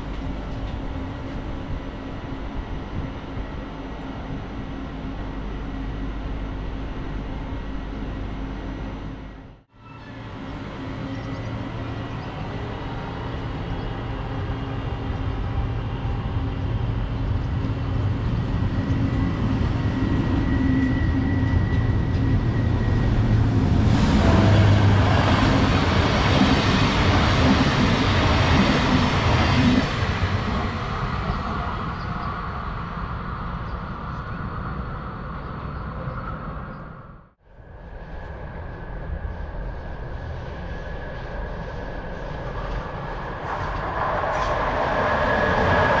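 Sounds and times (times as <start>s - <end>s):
train passing: 0.0s - 46.0s.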